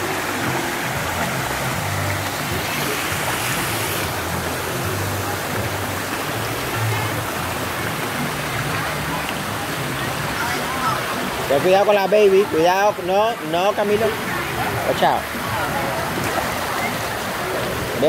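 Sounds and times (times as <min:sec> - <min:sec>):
background music: 0:00.0 - 0:18.0
running water rushing: 0:00.0 - 0:18.0.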